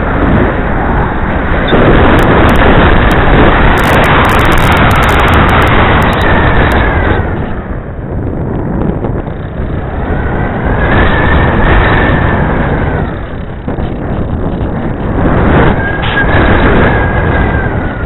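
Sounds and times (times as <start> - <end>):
high motor whine: 0.0 - 18.0
wind rushing over microphone: 0.0 - 18.0.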